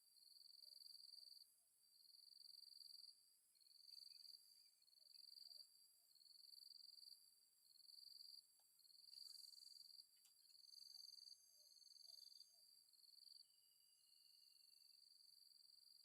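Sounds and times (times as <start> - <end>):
insect pulsed trill: 0.0 - 16.0
high insect hiss: 0.2 - 16.0.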